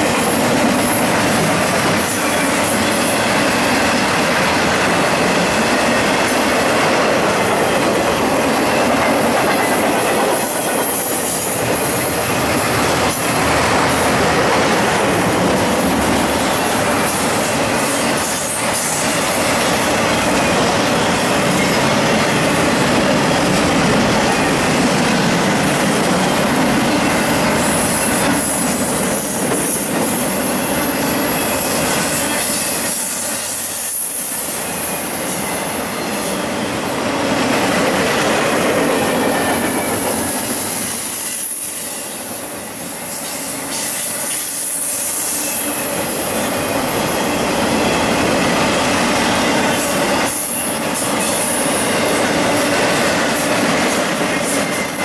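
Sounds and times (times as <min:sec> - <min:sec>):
steel wheels rolling on rails: 0:00.0 - 0:55.0.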